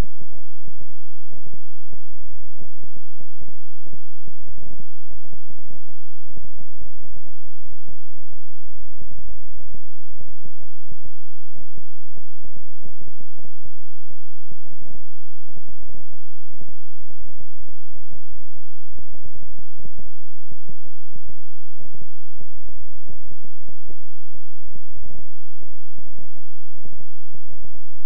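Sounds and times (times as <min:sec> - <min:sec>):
synthesized low hum: 0:00.0 - 0:28.0.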